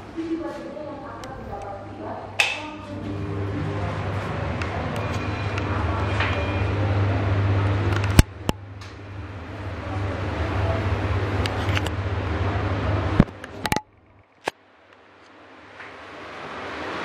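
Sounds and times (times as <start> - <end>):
exhaust fan motor hum: 0.0 - 17.0.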